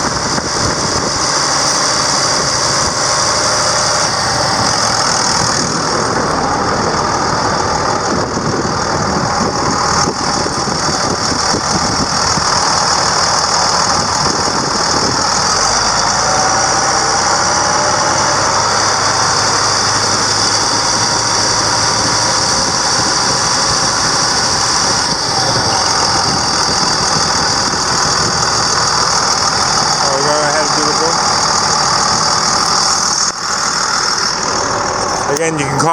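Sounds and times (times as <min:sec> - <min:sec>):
diesel engine running: 0:00.0 - 0:35.9
high-pitched whine: 0:00.0 - 0:35.9.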